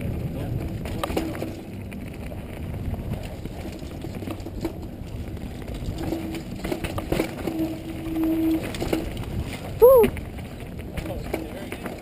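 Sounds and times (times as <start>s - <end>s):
steady hum: 0.0s - 10.6s
bike tyres rumbling over dirt: 0.0s - 12.0s.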